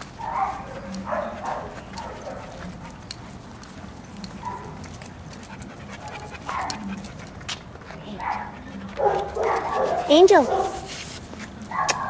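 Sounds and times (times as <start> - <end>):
dog panting: 0.0 - 11.1.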